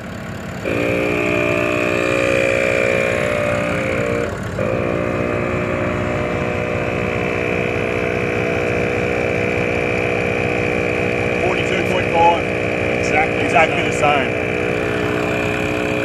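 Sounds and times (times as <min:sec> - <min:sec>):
air compressor whining: 0:00.0 - 0:16.0.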